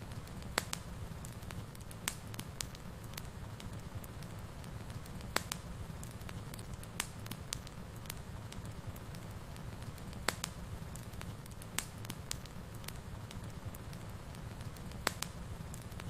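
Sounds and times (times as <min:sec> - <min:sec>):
fire burning in a fireplace: 0:00.0 - 0:16.0.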